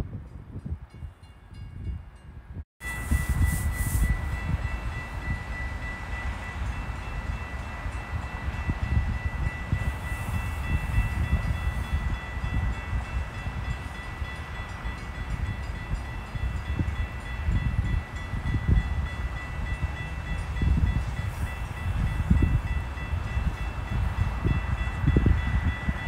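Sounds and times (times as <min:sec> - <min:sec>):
wind buffeting microphone: 0:00.0 - 0:26.0
high-pitched ringing tones: 0:02.8 - 0:26.0.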